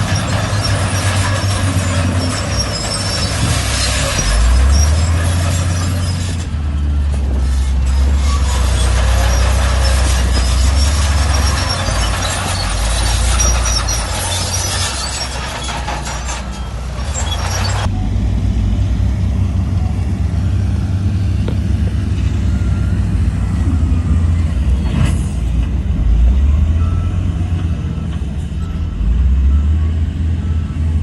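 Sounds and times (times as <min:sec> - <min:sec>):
diesel engine drone: 0:00.0 - 0:31.0.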